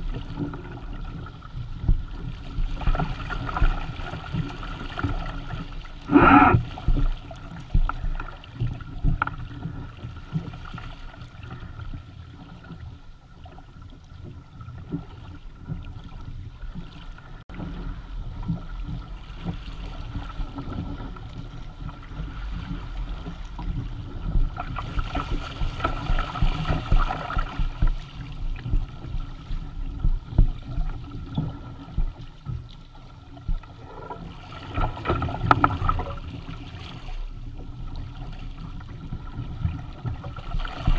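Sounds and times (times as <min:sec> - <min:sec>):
water rushing along kayak hulls: 0:00.0 - 0:40.9.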